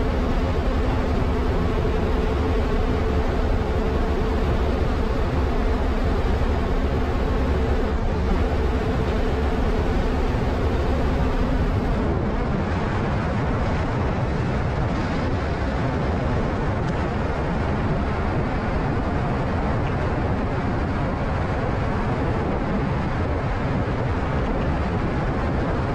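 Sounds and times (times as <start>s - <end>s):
bus engine drone: 0.0s - 25.9s
tyre and wind rush: 0.0s - 25.9s.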